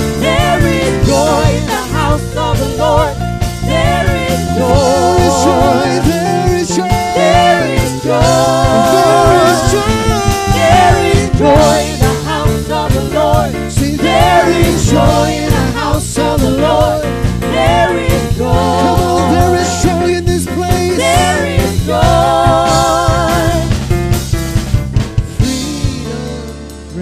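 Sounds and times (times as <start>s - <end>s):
people singing together: 0.0s - 23.8s
band with bass and drums: 0.0s - 27.0s.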